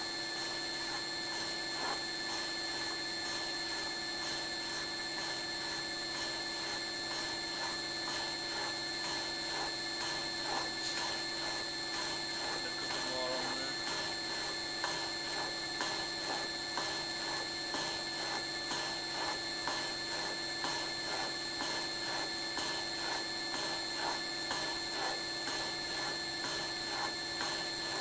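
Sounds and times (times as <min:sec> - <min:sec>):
steady motor whine: 0:00.0 - 0:28.0.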